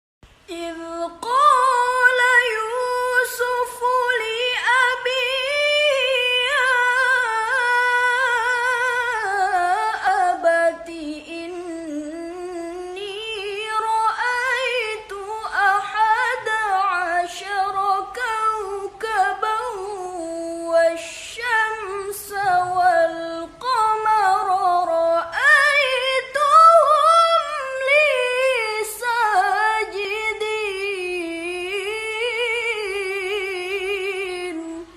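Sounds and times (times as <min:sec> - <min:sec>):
girl singing unaccompanied: 0:00.4 - 0:34.9.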